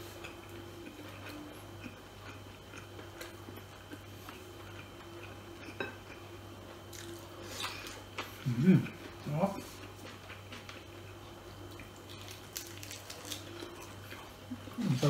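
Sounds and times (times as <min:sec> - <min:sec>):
low steady hum: 0:00.0 - 0:15.0
person chewing: 0:00.1 - 0:15.0.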